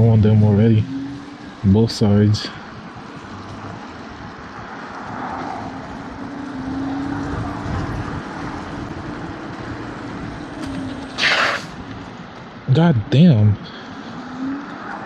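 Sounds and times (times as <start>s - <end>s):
electric scooter hum: 0.0s - 12.7s, 13.7s - 15.0s
road and wind noise: 0.0s - 15.0s.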